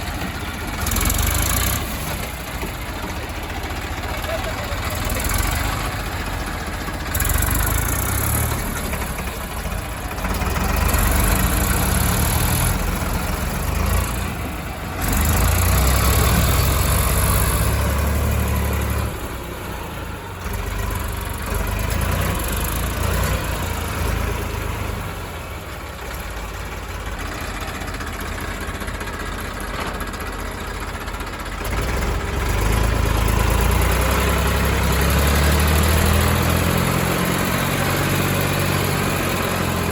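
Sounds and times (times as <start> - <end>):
diesel engines revving under load: 0.0 - 39.9.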